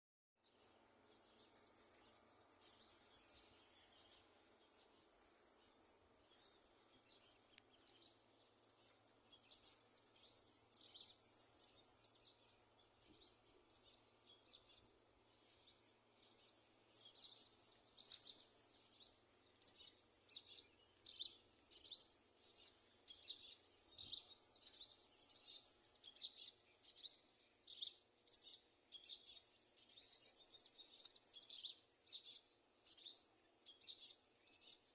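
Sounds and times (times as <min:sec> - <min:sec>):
small birds chirping and twittering: 0:00.4 - 0:34.9.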